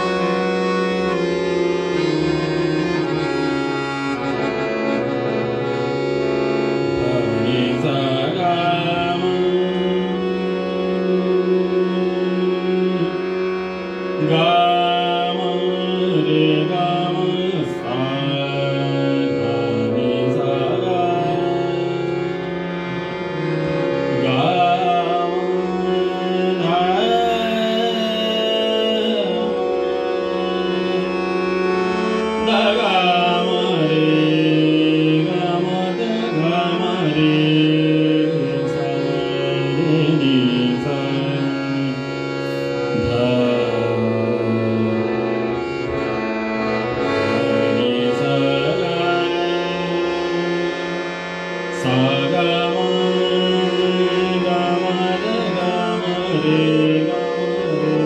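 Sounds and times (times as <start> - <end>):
harmonium held tones: 0.0 - 58.0
man singing devotional song: 0.0 - 58.0.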